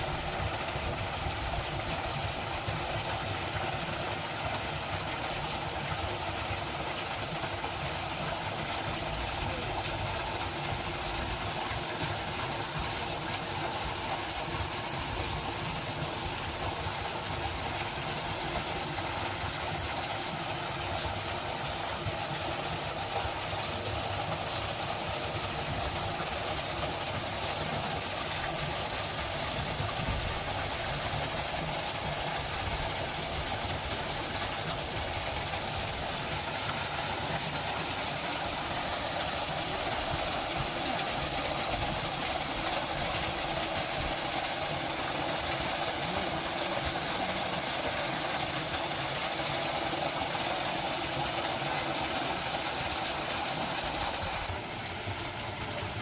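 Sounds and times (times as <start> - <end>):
running water: 0.0 - 56.0
wind: 0.0 - 56.0.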